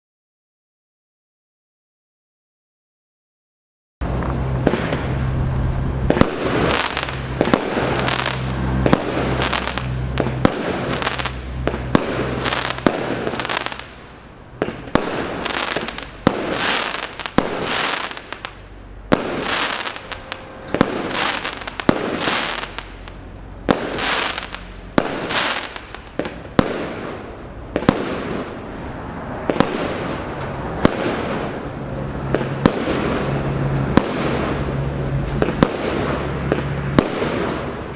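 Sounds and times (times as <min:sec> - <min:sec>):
firework reports: 0:04.0 - 0:37.9
firework hiss: 0:04.1 - 0:37.9.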